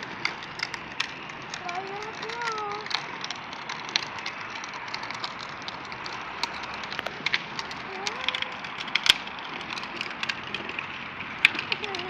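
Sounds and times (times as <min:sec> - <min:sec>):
crackling with sharp clicks: 0:00.0 - 0:12.0.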